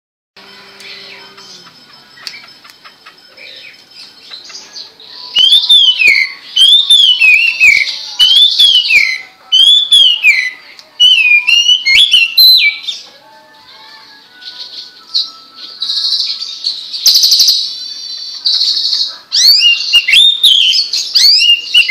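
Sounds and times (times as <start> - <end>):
bird chirps: 0.5 - 13.1, 14.4 - 17.8, 18.4 - 21.9
bird whistled song: 0.8 - 13.0, 14.4 - 21.9.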